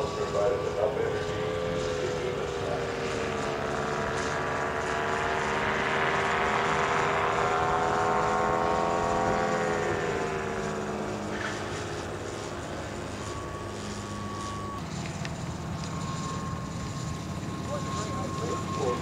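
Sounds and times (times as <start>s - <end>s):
electric ultralight motors humming: 0.0s - 19.0s.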